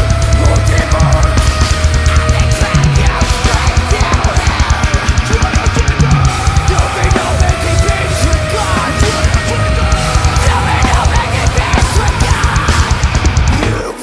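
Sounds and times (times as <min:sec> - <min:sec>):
drum kit hit hard and fast: 0:00.0 - 0:14.0
heavy metal band playing live: 0:00.0 - 0:14.0.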